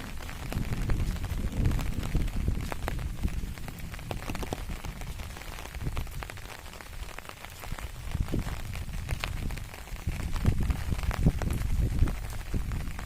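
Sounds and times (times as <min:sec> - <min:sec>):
raindrops tapping on plants: 0:00.0 - 0:13.0.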